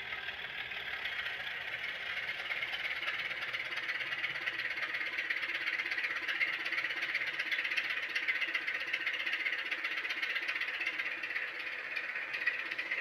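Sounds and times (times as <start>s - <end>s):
diesel engine sound from small speaker: 0.0s - 13.0s.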